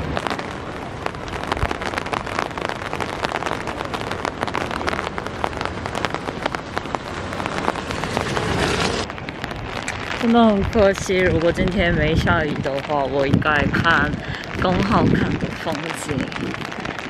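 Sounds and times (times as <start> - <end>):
rain drops pattering: 0.0 - 17.0.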